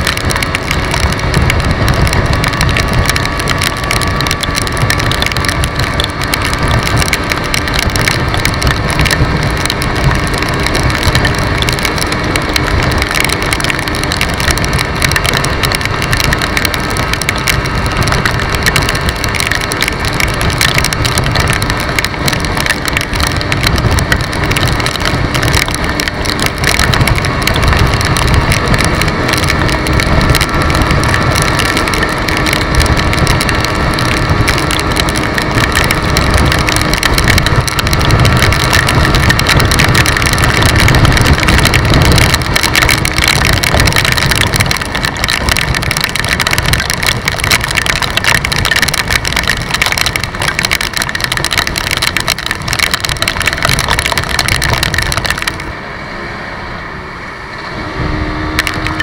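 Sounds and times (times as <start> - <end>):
scooter engine cruising: 0.0 - 59.0
wind rumbling on microphone: 0.0 - 59.0.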